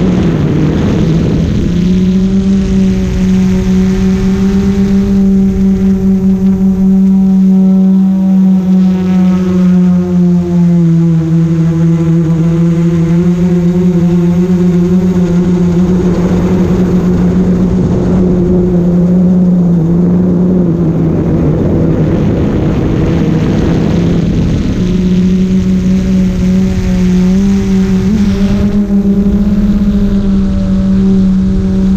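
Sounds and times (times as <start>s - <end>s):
drone propellers humming: 0.0s - 31.9s
wind rushing over microphone: 0.0s - 31.9s.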